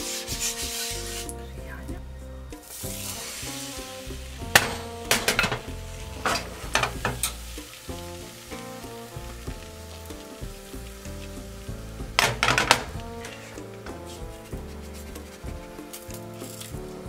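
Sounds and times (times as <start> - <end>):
batter sizzling in a frying pan: 0.0 - 1.4, 2.6 - 17.0
background music: 0.0 - 17.0.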